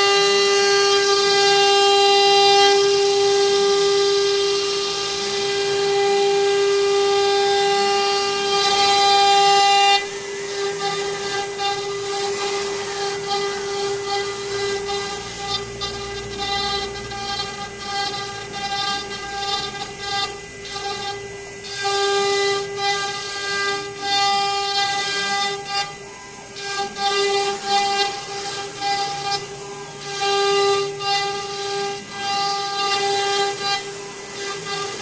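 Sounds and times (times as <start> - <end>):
router spindle whining: 0.0 - 35.0.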